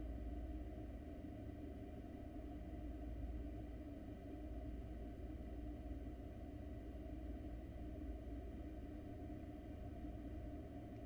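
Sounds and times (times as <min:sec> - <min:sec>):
low background hum and rumble: 0:00.0 - 0:11.0.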